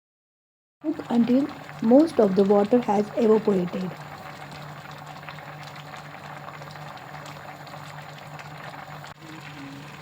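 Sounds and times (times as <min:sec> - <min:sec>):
rice boiling in a pot: 0:00.8 - 0:10.0.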